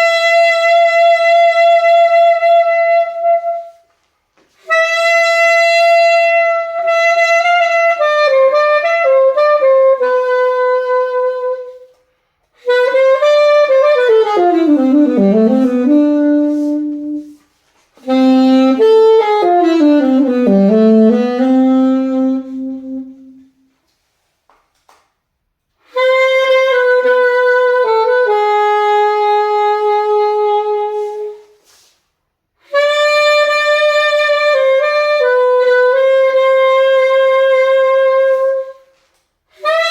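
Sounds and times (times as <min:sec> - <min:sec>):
alto saxophone melody: 0:00.0 - 0:23.9, 0:25.8 - 0:31.8, 0:32.6 - 0:39.9.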